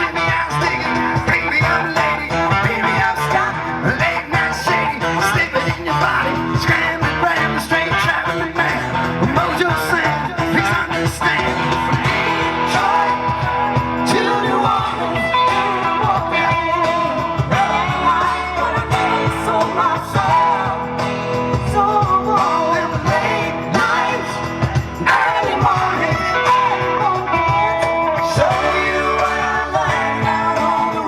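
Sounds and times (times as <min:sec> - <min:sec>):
rock music with singing: 0:00.0 - 0:31.0.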